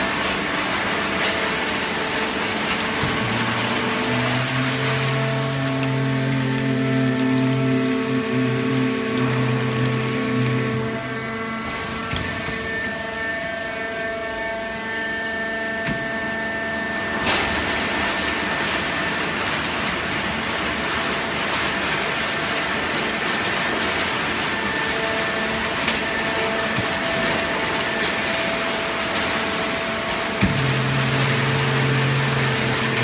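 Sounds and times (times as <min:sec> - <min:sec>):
baling press humming and whining: 0:00.0 - 0:33.0.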